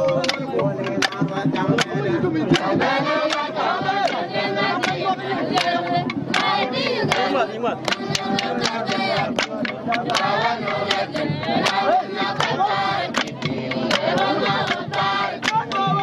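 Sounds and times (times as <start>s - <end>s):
crowd singing together: 0.0s - 16.0s
hand claps keeping the beat: 0.0s - 16.0s.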